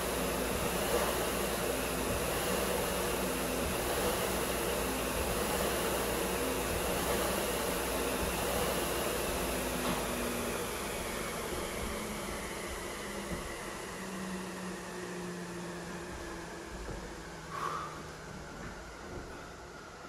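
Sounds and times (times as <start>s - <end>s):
fan flywheel whirring: 0.0s - 20.0s.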